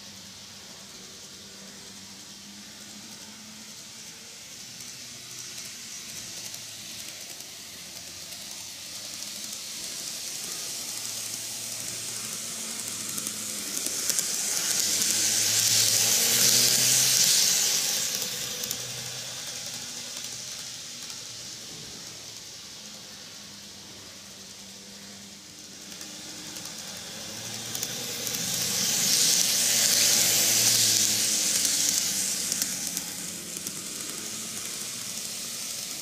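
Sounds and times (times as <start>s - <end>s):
model train high rushing noise: 0.0s - 36.0s.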